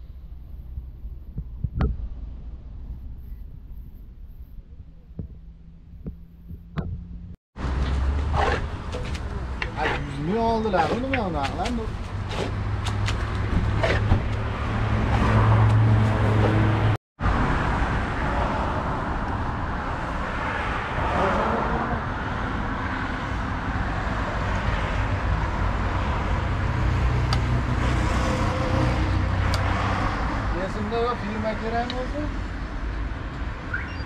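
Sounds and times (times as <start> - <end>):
passing traffic: 0.0 - 34.0.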